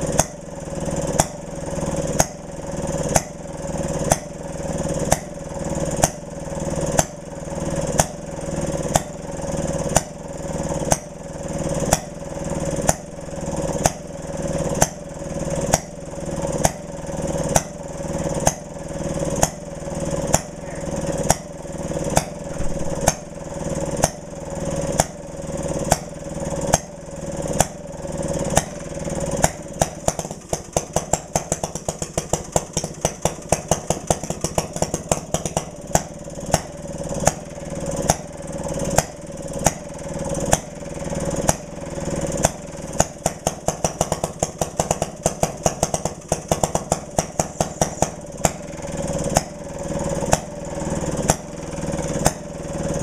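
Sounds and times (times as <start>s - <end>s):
single-cylinder engine running: 0.0s - 53.0s.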